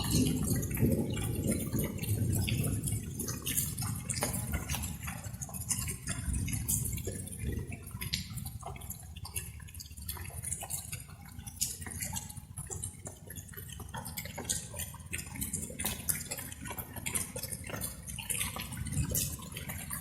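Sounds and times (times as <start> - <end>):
raindrops dripping and tapping: 0.0 - 20.0.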